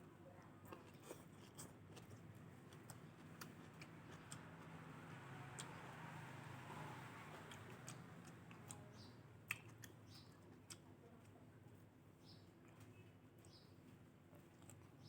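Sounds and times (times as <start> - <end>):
chewing food: 0.1 - 15.0.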